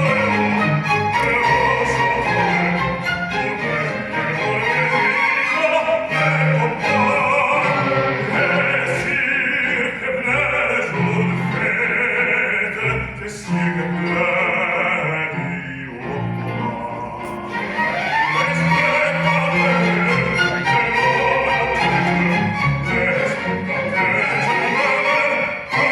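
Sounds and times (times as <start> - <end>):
operatic singing: 0.0 - 25.9
orchestral strings music: 0.0 - 25.9.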